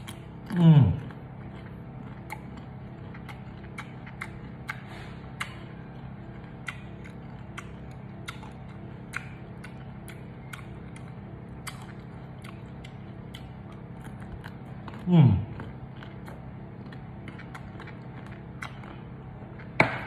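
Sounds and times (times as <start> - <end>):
crunchy chewing: 0.0 - 20.0
steady low hum: 0.0 - 20.0.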